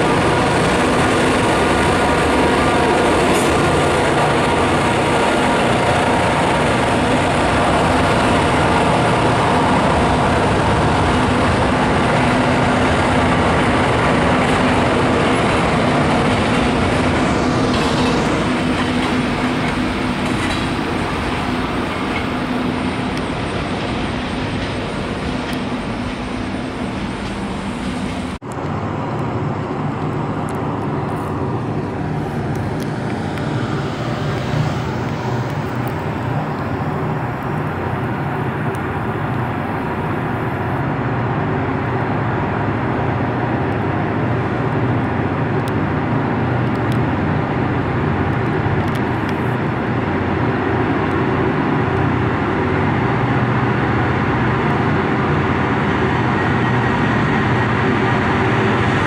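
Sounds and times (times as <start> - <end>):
freight train rumbling by: 0.0 - 59.0
steel wheels on rail: 0.0 - 59.0.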